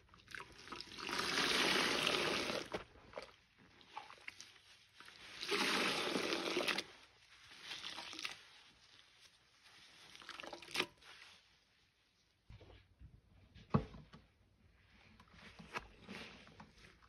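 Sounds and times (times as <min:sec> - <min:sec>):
sponge squelching in a bowl: 0:00.0 - 0:12.6, 0:14.6 - 0:17.0.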